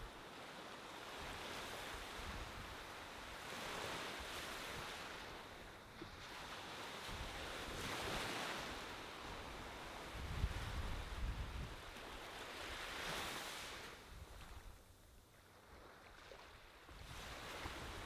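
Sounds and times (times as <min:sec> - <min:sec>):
ocean surf on a sandy beach: 0:00.0 - 0:18.0
wind rumble on microphone: 0:00.0 - 0:18.0.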